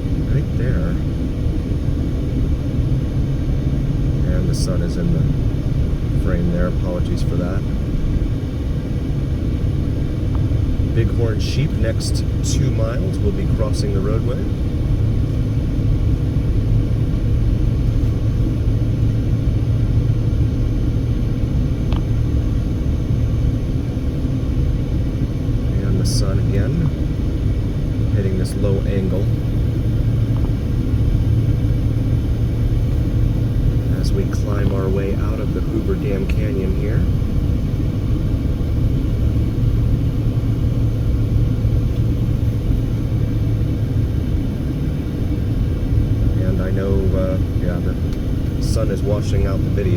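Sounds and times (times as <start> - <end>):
car engine and tyres rumbling: 0.0 - 49.9
faint steady hum: 0.0 - 49.9
road noise: 0.0 - 49.9.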